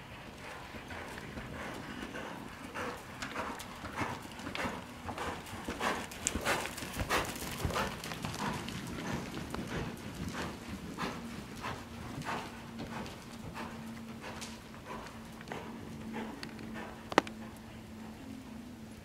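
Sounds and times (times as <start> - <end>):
horse hoofbeats on sand: 0.0 - 18.1.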